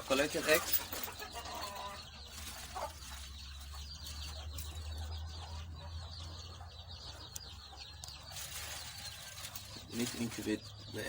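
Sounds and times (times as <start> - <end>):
chickens calling quietly: 0.0 - 11.0.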